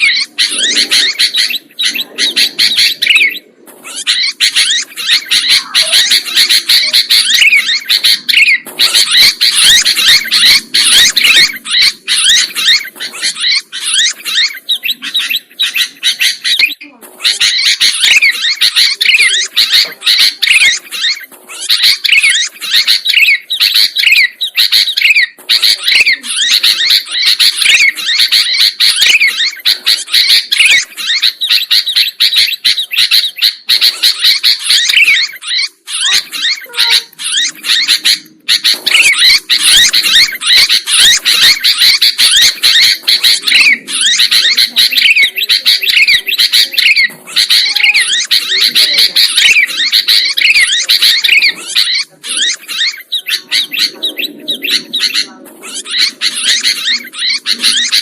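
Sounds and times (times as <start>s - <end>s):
bird chirping and whistling: 0.0s - 58.0s.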